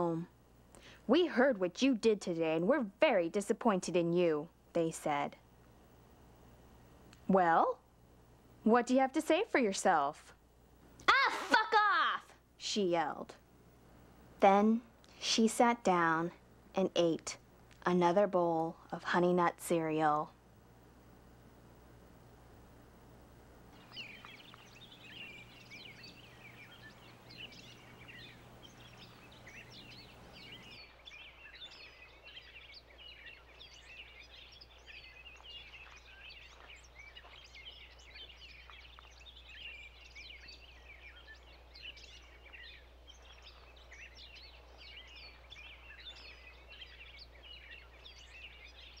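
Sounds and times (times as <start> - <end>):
small birds chirping: 0.0 - 21.5, 23.6 - 49.0
low electrical hum: 0.0 - 49.0.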